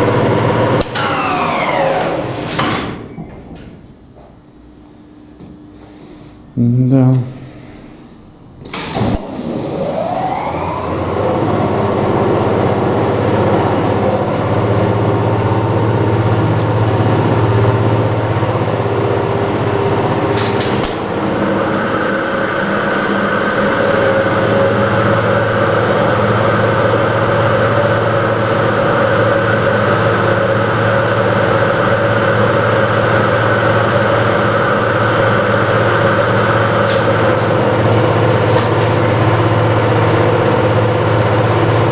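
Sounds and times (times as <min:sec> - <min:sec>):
elevator motor humming and whining: 0:00.0 - 0:05.8, 0:06.5 - 0:41.9.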